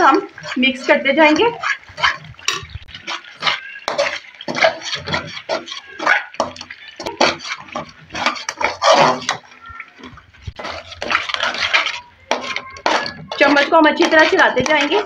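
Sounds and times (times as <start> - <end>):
spoon scraping a pan: 0.0 - 15.0.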